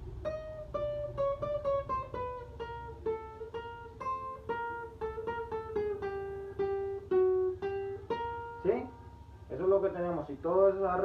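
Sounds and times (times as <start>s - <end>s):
plucked guitar melody: 0.0s - 10.2s.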